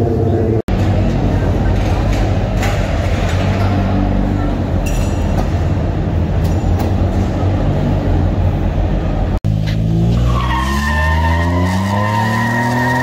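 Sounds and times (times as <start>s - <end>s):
car engine with exhaust rumble: 0.0s - 13.0s.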